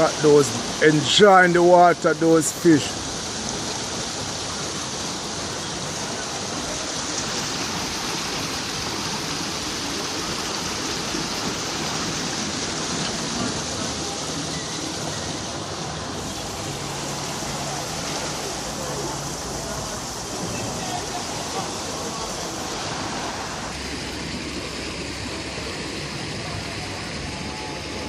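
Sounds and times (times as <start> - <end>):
seawater washing along shore: 0.0 - 28.0.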